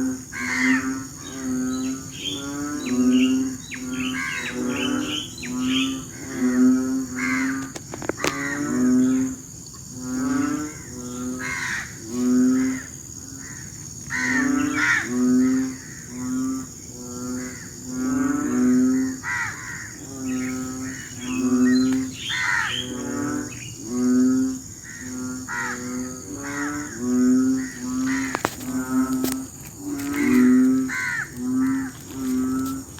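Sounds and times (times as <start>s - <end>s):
frogs calling: 0.0s - 32.9s.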